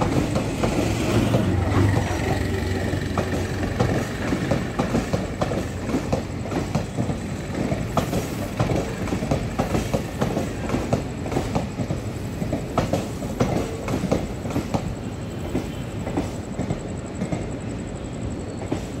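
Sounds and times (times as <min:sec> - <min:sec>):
train wheels clattering over joints: 0:00.0 - 0:17.6
train rumble: 0:00.0 - 0:19.0.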